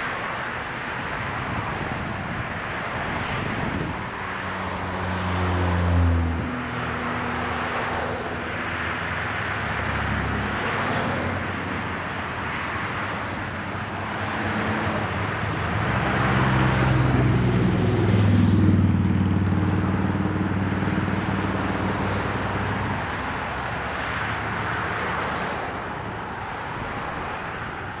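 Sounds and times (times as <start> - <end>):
highway traffic passing: 0.0 - 28.0.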